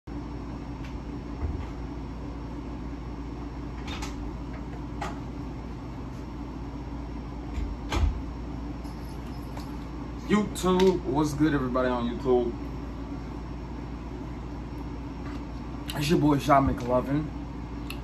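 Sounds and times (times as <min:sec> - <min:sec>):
ceiling fan hum: 0:00.1 - 0:18.0.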